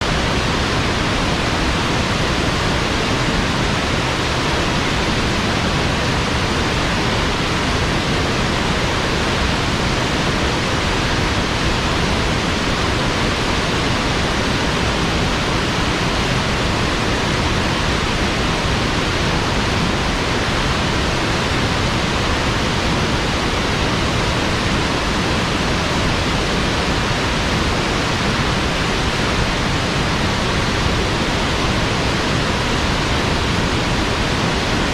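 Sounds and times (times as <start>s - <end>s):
steady rushing noise: 0.0s - 34.9s.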